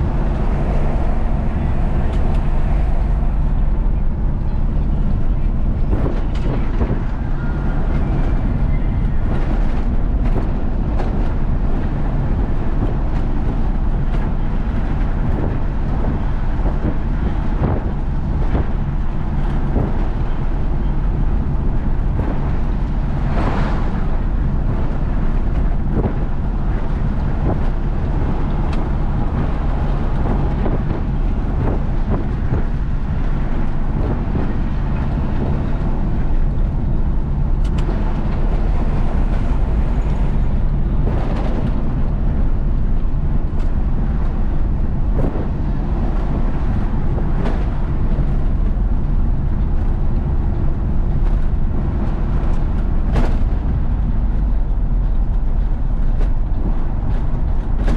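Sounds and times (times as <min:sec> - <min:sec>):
truck diesel engine running: 0:00.0 - 0:53.4
rush of noise: 0:00.0 - 0:57.9
tyre and road noise: 0:00.0 - 0:57.9.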